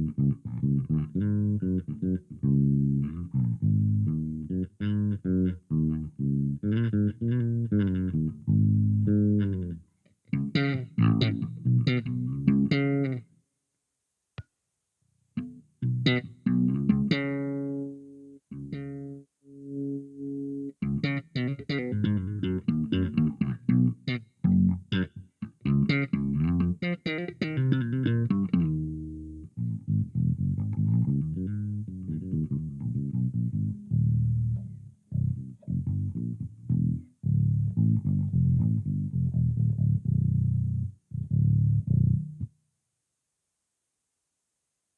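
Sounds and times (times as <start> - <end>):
electric bass plucked notes: 0.0 - 13.2, 15.4 - 42.5.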